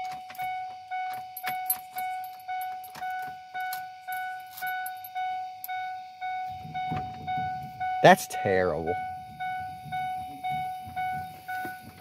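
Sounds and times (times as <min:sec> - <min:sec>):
dashboard warning chime dinging: 0:00.0 - 0:12.0.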